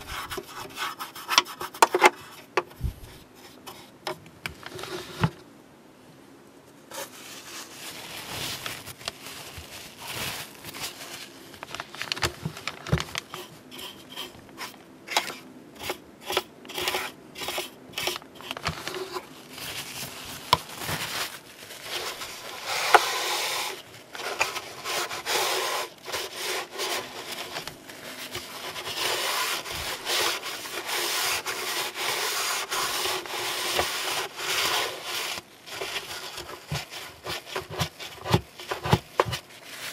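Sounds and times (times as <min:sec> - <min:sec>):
paint brush scrubbing plastic: 0:00.0 - 0:04.0, 0:06.9 - 0:39.9
paper tissue rubbing surface: 0:00.0 - 0:04.0, 0:06.9 - 0:39.9.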